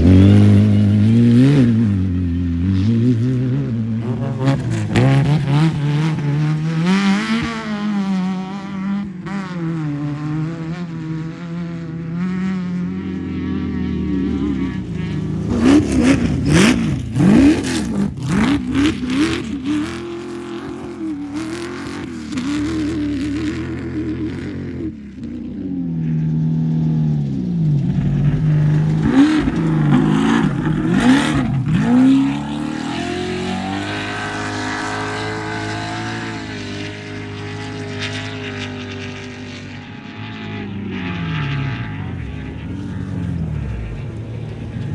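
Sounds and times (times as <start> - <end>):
off-road vehicle engines revving: 0.0 - 44.9.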